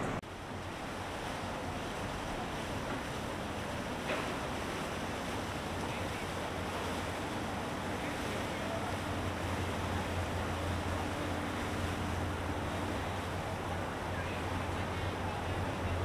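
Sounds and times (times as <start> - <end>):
boat engines droning: 0.0 - 16.0
water wash: 0.0 - 16.0.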